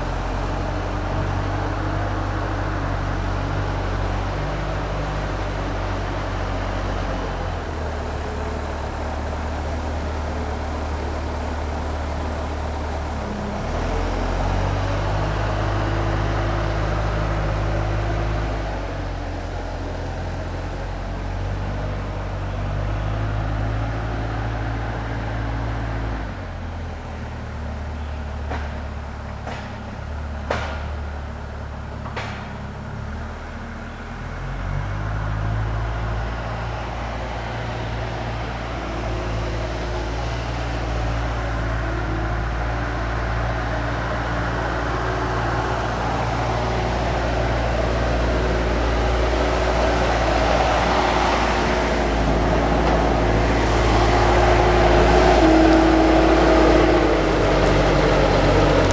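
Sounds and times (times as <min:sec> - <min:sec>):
heavy machine engine under load: 0:00.0 - 0:58.9.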